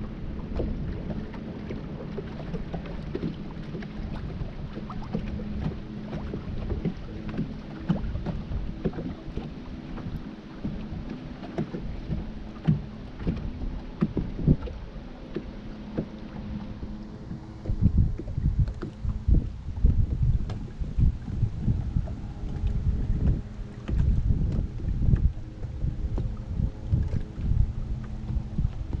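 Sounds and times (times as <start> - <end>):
electric trolling motor humming: 0.0 - 29.0
water slapping against hull: 0.0 - 29.0.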